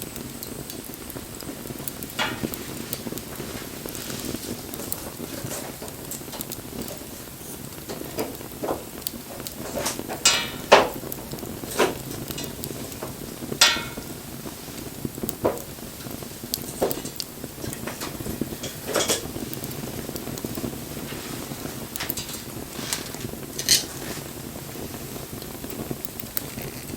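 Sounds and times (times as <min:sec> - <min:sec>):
wood fire crackling and popping: 0:00.0 - 0:26.9.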